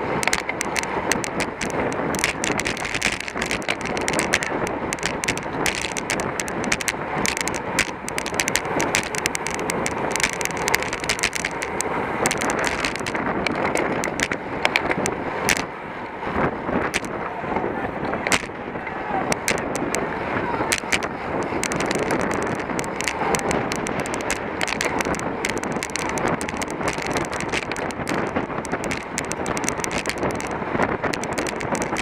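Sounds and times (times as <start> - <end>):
bicycle rattles and clicks: 0.0 - 32.0
wind rushing over microphone: 0.0 - 32.0.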